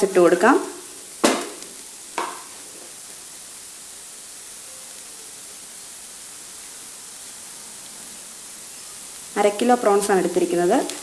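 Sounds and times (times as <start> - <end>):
prawns sizzling in a pan: 0.0 - 11.0.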